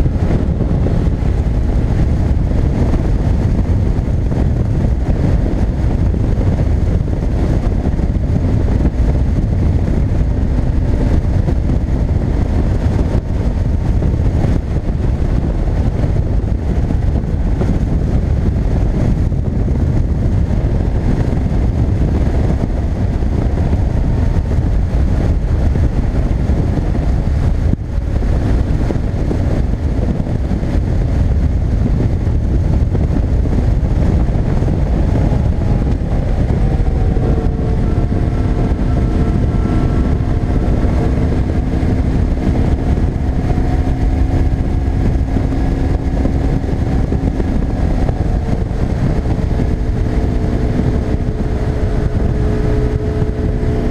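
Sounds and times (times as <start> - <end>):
motorcycle engine: 0.0 - 53.9
wind rushing on microphone: 0.0 - 53.9.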